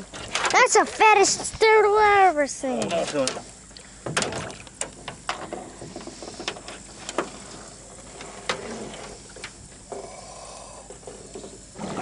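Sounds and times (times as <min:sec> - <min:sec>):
knocks and scrapes in boat: 0:00.0 - 0:02.0, 0:02.8 - 0:10.1, 0:10.8 - 0:12.0.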